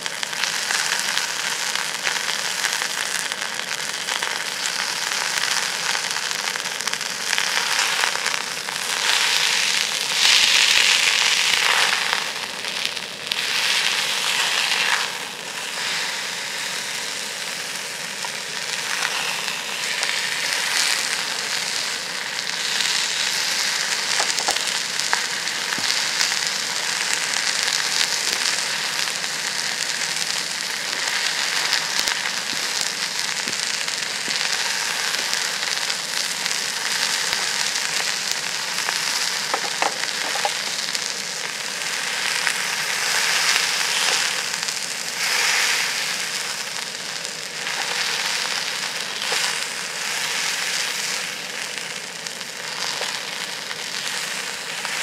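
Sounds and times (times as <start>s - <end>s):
fat popping and crackling: 0.0s - 45.5s, 46.1s - 55.0s
meat sizzling in a pan: 0.0s - 55.0s.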